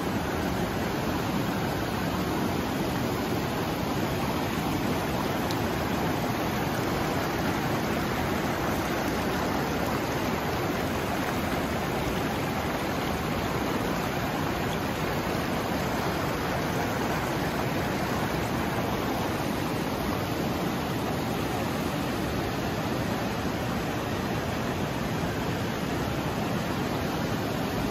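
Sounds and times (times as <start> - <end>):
river rushing over rapids: 0.0 - 27.9.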